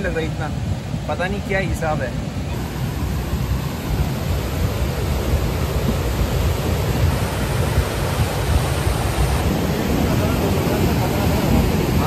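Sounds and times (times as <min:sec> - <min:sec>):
river torrent rushing: 0:00.0 - 0:12.0.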